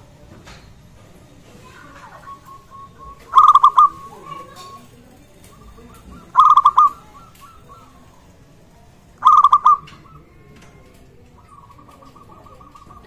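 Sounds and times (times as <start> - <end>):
dove cooing: 1.5 - 13.0.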